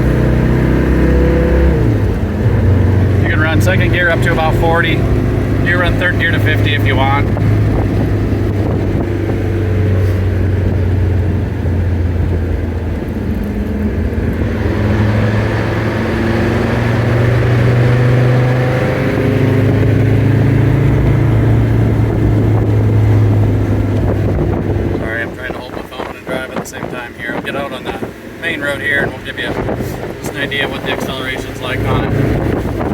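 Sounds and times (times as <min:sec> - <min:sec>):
diesel engine drone in cab: 0:00.0 - 0:32.9.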